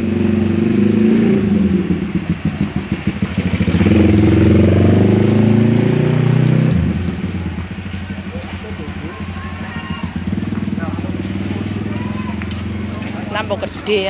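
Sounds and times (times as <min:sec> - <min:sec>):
motor engine throbbing: 0:00.0 - 0:14.0.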